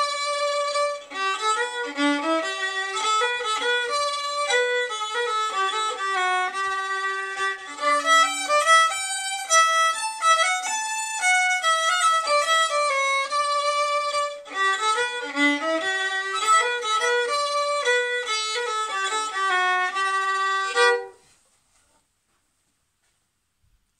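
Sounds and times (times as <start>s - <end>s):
solo fiddle playing hornpipe: 0.0s - 21.3s.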